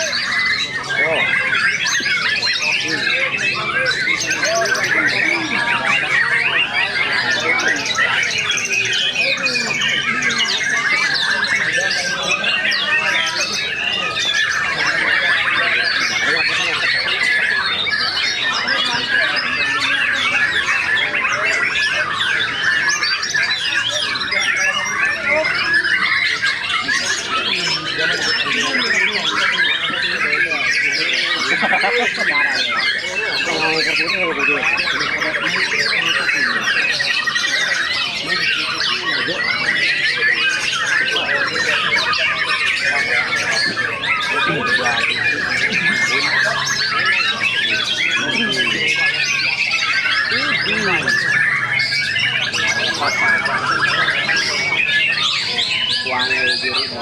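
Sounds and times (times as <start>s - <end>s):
caged songbirds singing: 0.0s - 57.0s.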